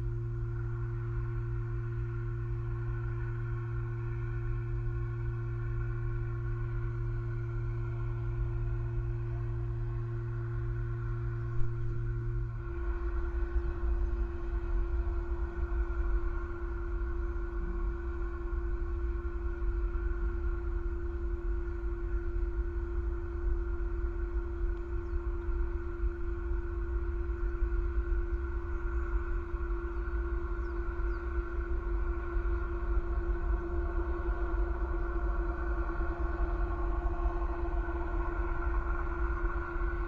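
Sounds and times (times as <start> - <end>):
constant humming tone: 0.0 - 40.0
low outdoor rumble: 0.0 - 40.0.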